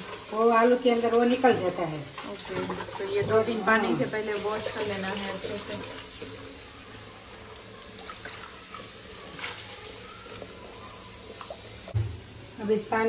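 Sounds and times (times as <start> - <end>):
small water splashes: 0.0 - 6.5, 7.8 - 12.1
tap water running into bucket: 0.0 - 13.0.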